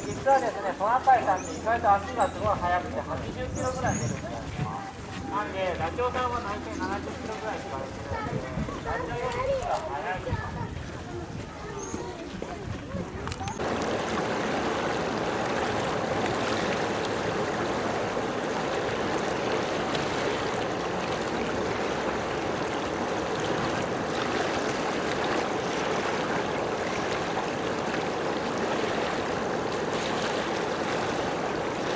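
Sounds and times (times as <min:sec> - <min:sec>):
water rushing: 0:00.0 - 0:31.9.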